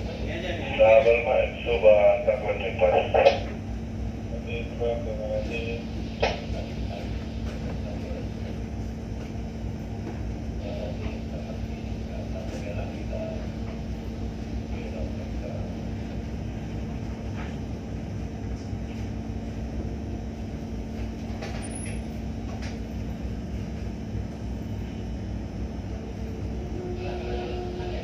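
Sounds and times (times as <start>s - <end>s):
boat engine rumbling: 0.0s - 28.0s.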